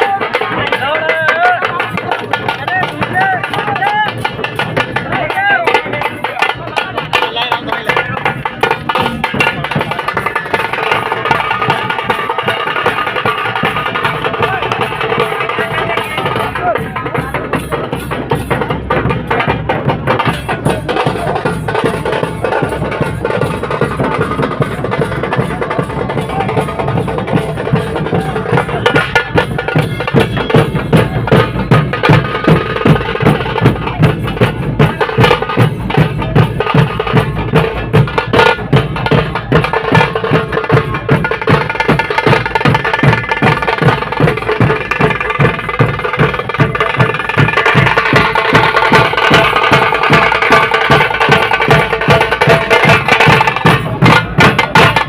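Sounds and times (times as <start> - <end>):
drums beaten with sticks: 0.0 - 55.0.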